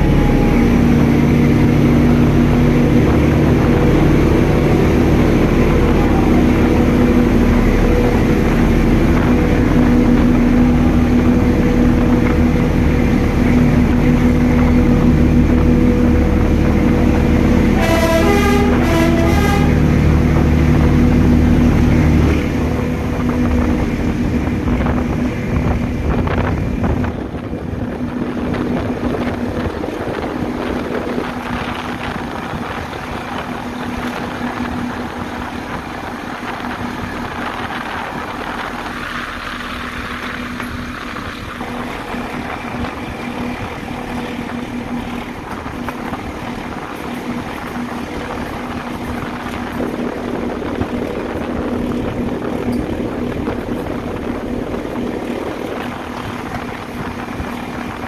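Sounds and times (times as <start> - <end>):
locomotive engine hum: 0.0 - 58.0
train wheel rail and wind noise: 0.0 - 58.0.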